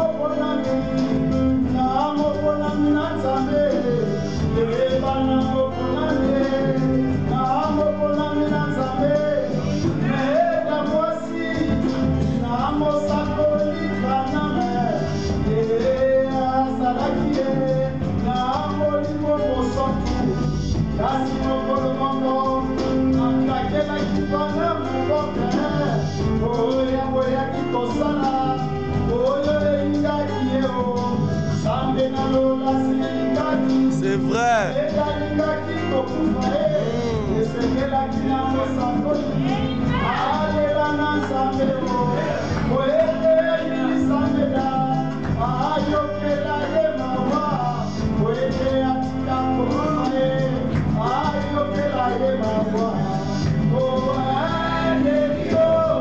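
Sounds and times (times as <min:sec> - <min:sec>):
hand drum: 0:00.0 - 0:56.0
man singing gospel song: 0:00.0 - 0:56.0.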